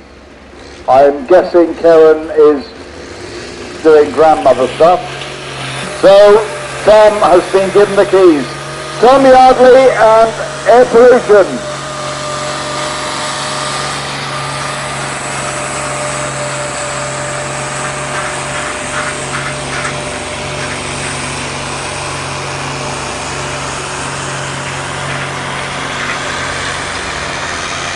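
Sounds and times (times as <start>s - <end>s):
tractor engine at high revs: 0.0s - 27.9s.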